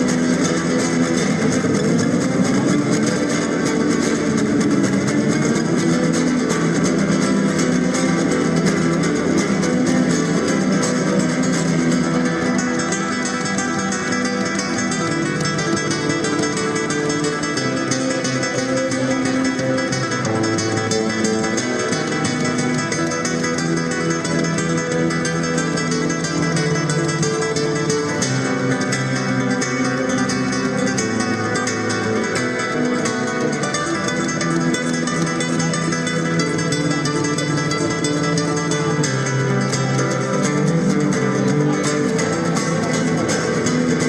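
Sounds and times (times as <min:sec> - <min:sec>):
flamenco-style acoustic guitar: 0:00.0 - 0:44.0.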